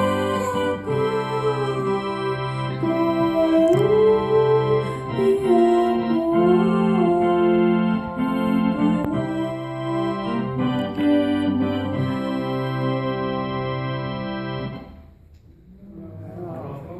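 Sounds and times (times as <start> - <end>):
electronic keyboard playing hymn: 0.0 - 15.2.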